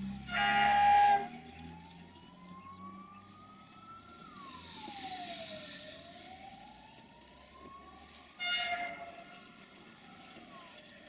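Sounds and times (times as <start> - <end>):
faint siren wailing: 0.0 - 11.0.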